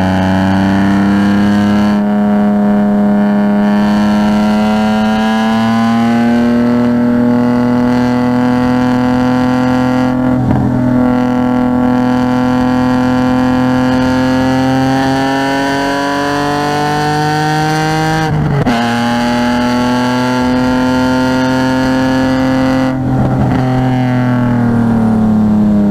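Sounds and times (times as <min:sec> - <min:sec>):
car engine accelerating: 0:00.0 - 0:25.9.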